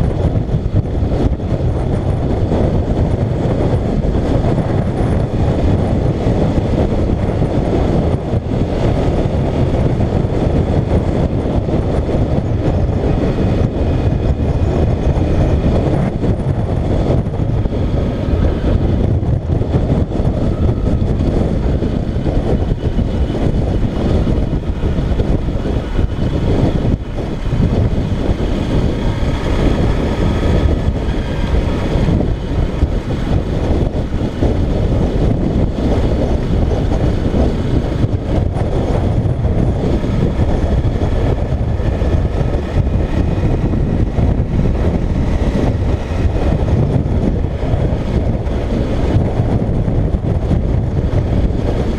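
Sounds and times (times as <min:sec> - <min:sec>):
motorcycle engine running: 0:00.0 - 0:51.9
road noise: 0:00.0 - 0:51.9
wind rush: 0:00.0 - 0:51.9.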